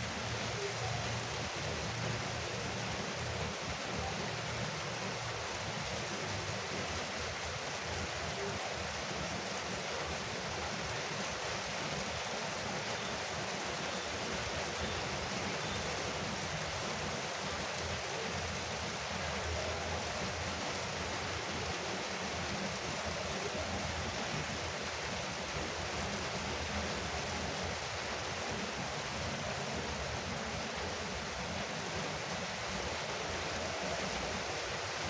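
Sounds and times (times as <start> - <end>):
rain drumming on a roof: 0.0 - 35.0.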